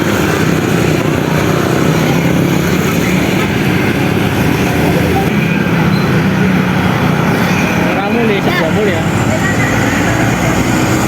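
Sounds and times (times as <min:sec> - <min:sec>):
heavy vehicle engine running: 0:00.0 - 0:11.0
road noise: 0:00.0 - 0:11.0.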